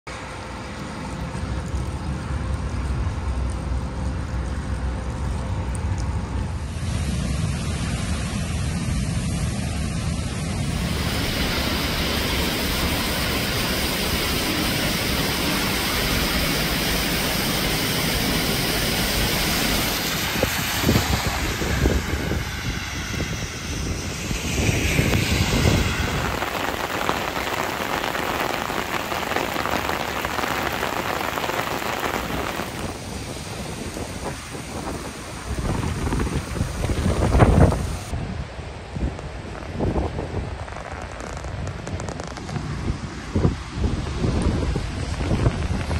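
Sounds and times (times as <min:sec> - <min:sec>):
heavy rain rushing: 0:00.1 - 0:45.9.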